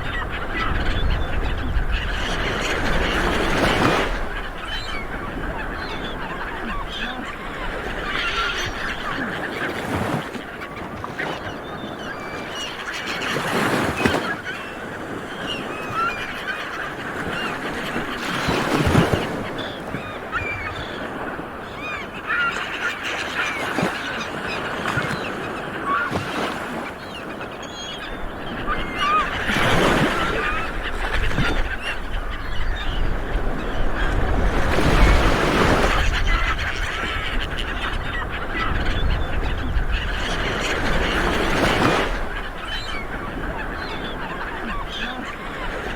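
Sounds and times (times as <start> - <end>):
seabirds honking calls: 0.0 - 45.9.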